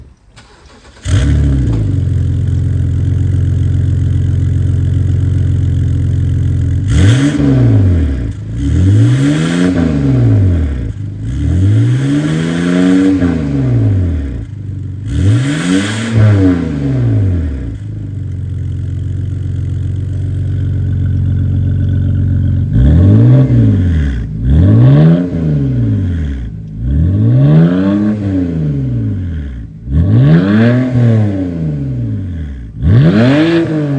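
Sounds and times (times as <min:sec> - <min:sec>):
car exhaust revving: 0:01.0 - 0:33.9.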